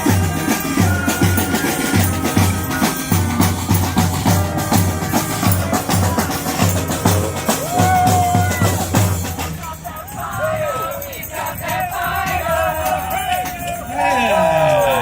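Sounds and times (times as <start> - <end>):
drums: 0.0 - 15.0
street brass band playing: 0.0 - 15.0.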